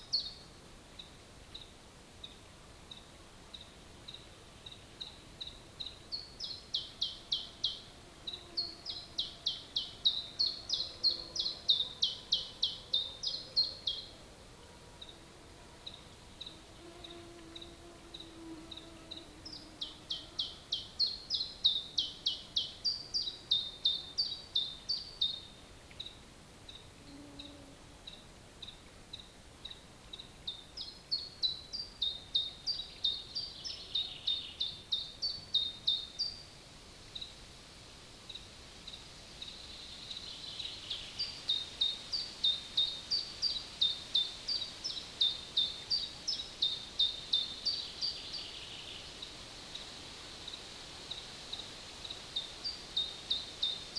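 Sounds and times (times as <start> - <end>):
quiet forest background: 0.0 - 53.9.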